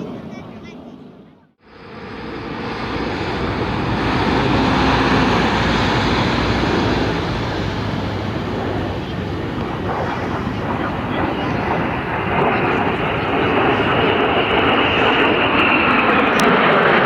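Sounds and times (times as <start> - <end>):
jet roar: 0.0 - 17.0.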